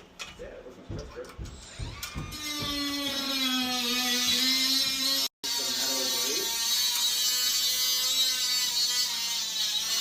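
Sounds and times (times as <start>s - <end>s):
small electric motor whining: 1.6s - 10.0s.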